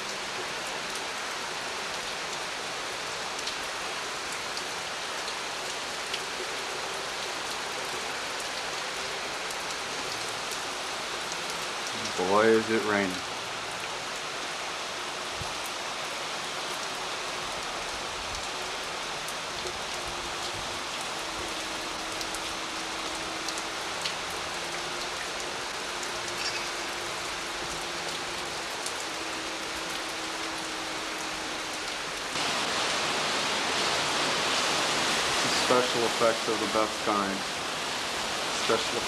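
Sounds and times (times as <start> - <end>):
heavy rain pattering: 0.0 - 39.0.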